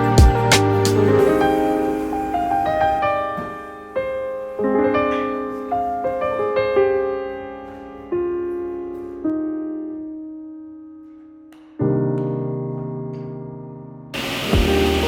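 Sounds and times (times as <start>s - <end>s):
slow solo piano melody: 0.0s - 14.1s.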